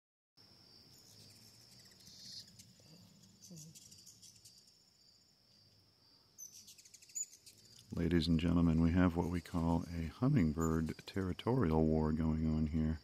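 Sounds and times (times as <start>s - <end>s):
insects trilling: 0.4s - 13.0s.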